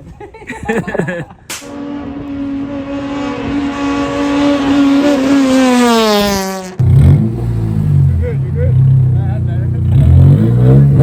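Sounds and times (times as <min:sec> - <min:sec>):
lower rough engine note: 0:01.5 - 0:11.0
car engine revving: 0:01.6 - 0:11.0.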